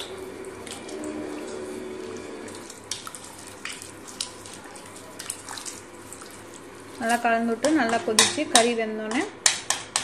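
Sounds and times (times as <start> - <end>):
liquid sloshing in a pot: 0.0 - 8.7.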